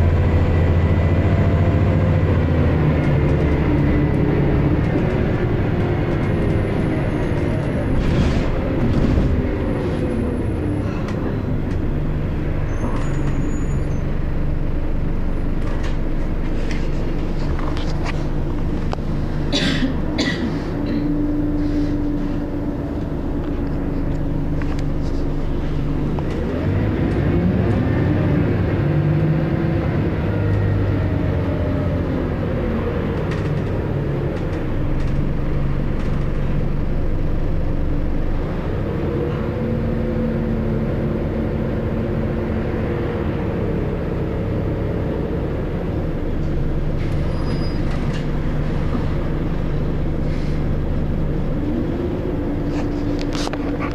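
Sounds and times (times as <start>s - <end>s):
bus engine and gearbox whine: 0.0s - 53.9s.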